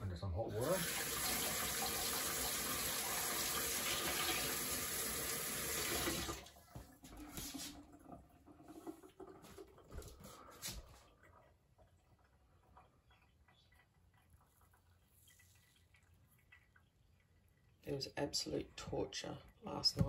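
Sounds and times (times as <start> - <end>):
tap water running into sink: 0.5 - 17.7.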